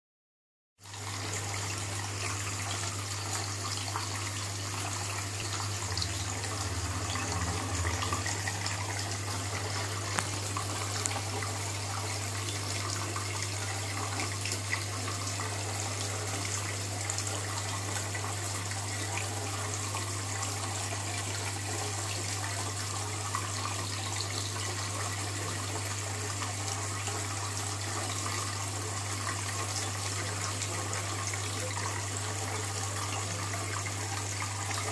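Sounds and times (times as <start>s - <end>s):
water running and trickling: 0.8s - 34.9s.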